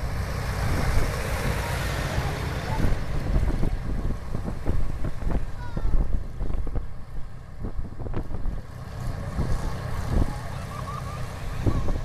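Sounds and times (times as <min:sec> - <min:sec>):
wind buffeting microphone: 0:00.0 - 0:10.6, 0:11.2 - 0:12.0
tractor engines rumbling: 0:00.0 - 0:12.0.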